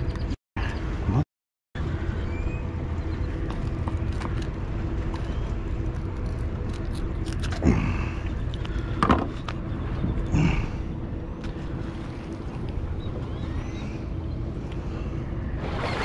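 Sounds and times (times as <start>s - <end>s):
faint hum: 1.8s - 16.0s
low outdoor rumble: 1.8s - 16.0s.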